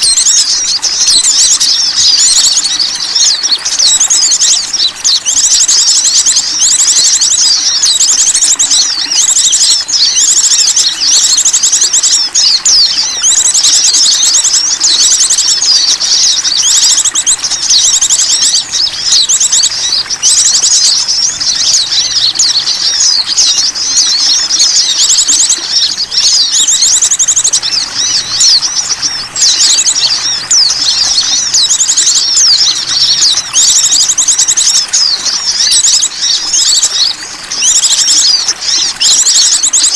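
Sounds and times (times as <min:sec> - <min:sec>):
small birds twittering: 0:00.0 - 0:39.9.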